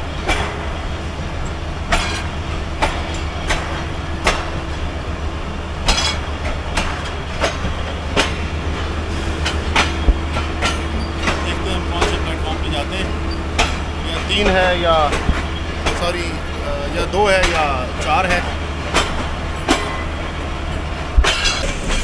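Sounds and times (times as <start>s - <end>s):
train low rumble: 0.0s - 22.0s
train wheels clicking over rail joints: 0.0s - 22.0s.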